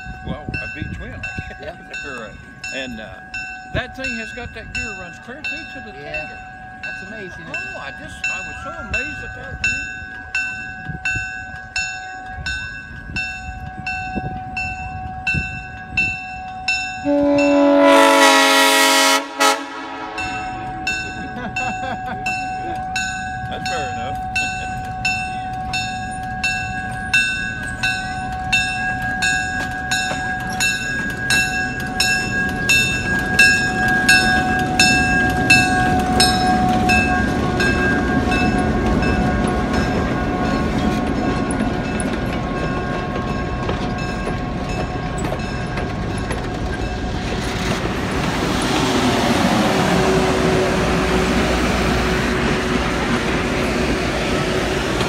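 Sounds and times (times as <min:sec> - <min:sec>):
locomotive bell ringing: 0:00.0 - 0:55.0
train engine rumble: 0:00.0 - 0:55.0
train wheels on rails: 0:00.0 - 0:55.0.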